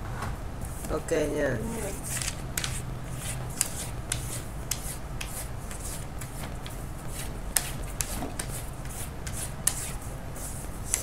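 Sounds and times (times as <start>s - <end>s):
pencil scratching on paper: 1.7s - 11.0s.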